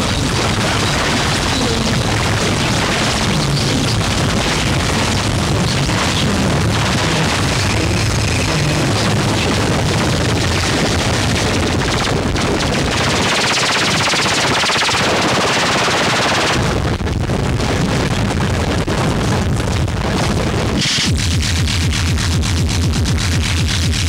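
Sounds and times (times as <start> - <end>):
distorted noise music crackling: 0.0 - 24.0.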